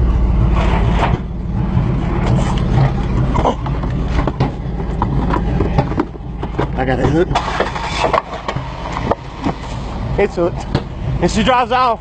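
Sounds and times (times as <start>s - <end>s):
truck engine with loud exhaust: 0.0s - 12.0s
tow gear clanking: 0.4s - 12.0s.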